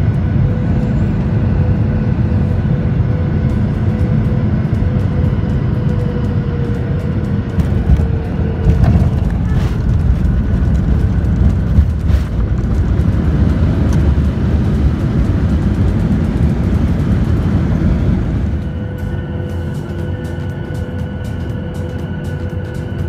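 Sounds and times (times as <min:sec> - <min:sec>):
jet engines and wheels rumbling: 0:00.0 - 0:23.0.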